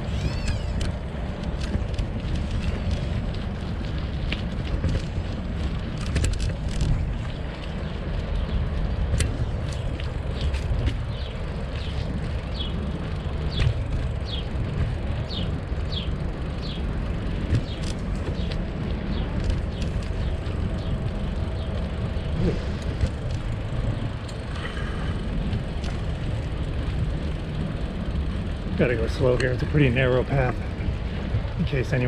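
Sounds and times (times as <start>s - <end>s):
tyres rolling on paved path: 0.0s - 32.0s.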